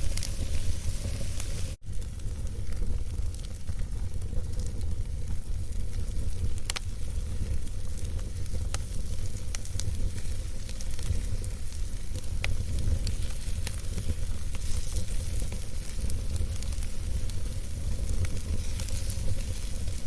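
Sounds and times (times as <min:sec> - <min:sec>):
campfire crackling: 0:00.0 - 0:20.0
sharp pops from burning wood: 0:00.0 - 0:20.0.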